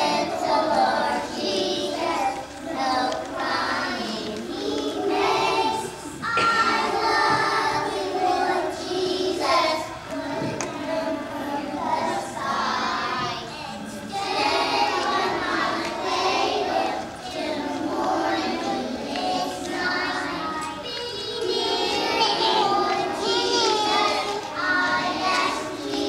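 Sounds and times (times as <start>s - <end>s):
young children singing: 0.0s - 26.0s.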